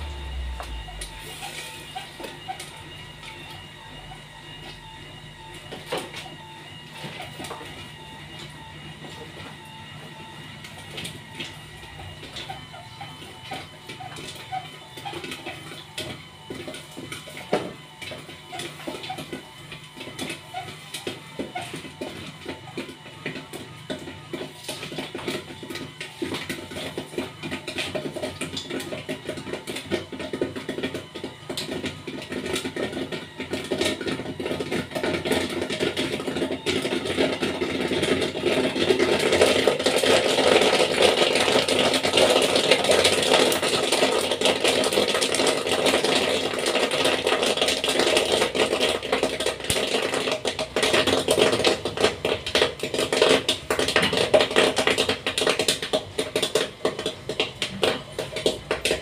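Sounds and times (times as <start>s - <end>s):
popcorn kernels popping: 0.0s - 59.0s
stirrer motor hum: 0.0s - 59.0s.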